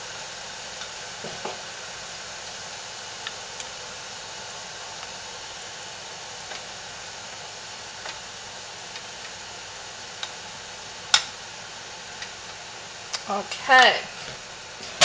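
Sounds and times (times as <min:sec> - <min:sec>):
double boiler hissing: 0:00.0 - 0:15.0.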